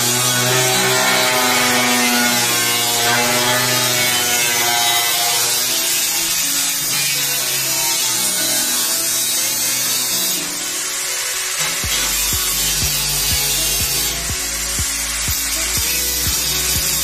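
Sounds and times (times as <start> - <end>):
angle grinder cutting metal: 0.0 - 17.0.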